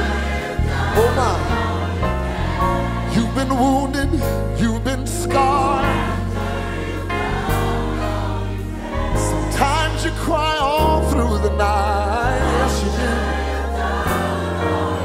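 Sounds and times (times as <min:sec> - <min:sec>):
choir singing: 0:00.0 - 0:15.0
steady bass line: 0:00.0 - 0:15.0.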